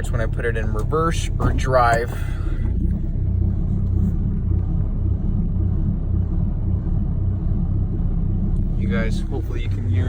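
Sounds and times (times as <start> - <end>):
diesel engine idling rough: 0.0 - 10.0.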